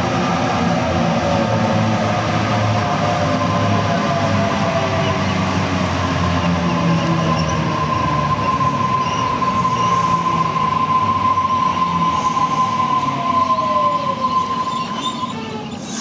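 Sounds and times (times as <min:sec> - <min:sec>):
electric train whine and rumble: 0:00.0 - 0:16.0.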